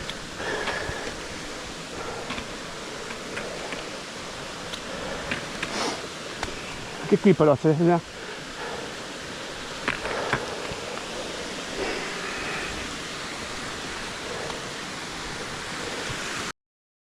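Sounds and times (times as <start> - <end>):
steady rushing noise: 0.0 - 16.5.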